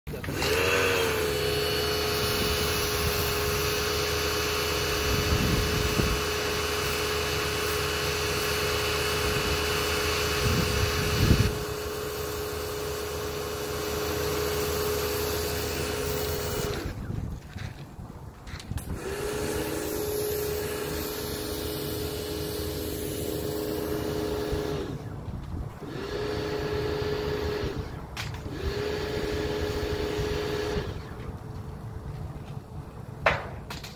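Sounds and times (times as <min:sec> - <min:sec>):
mechanical hum with whine: 0:00.1 - 0:33.9.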